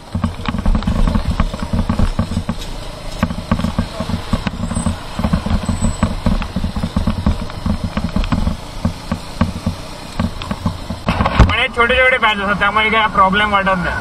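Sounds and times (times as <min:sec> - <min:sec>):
clicks and rattles from bumps: 0:00.0 - 0:11.6
motorcycle engine rumbling: 0:00.0 - 0:14.0.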